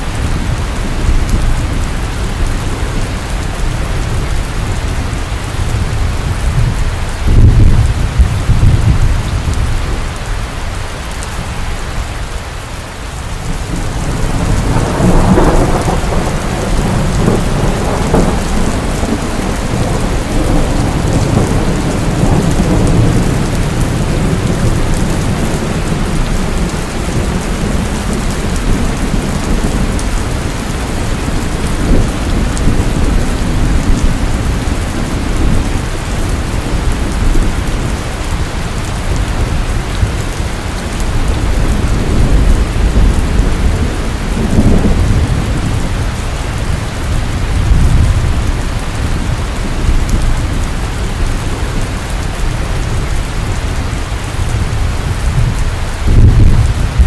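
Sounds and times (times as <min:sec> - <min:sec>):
thunder rumbling: 0:00.0 - 0:10.2, 0:13.2 - 0:57.0
heavy rain: 0:00.0 - 0:57.0.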